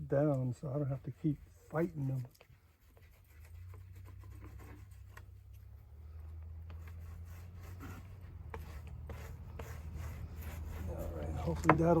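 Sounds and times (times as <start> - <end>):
faint rubbing: 0.3 - 12.0.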